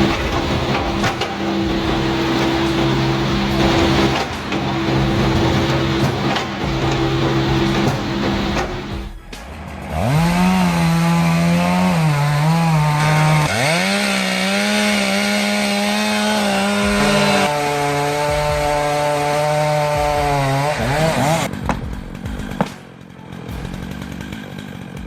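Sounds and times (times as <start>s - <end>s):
chainsaw cutting wood: 0.0s - 9.2s, 9.9s - 25.0s.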